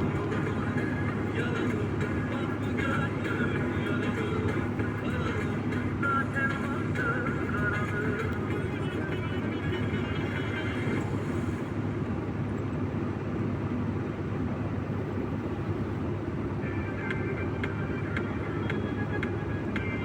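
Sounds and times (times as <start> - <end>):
road noise inside cab: 0.0 - 20.0
truck engine droning: 0.0 - 20.0.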